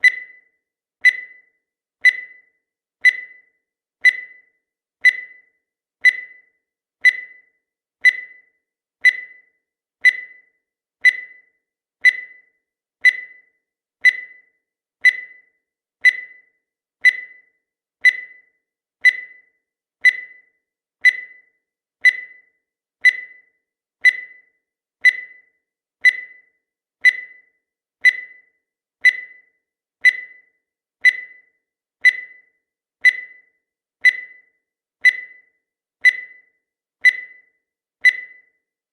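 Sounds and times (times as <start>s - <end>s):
high timer ticks: 0.0s - 38.7s.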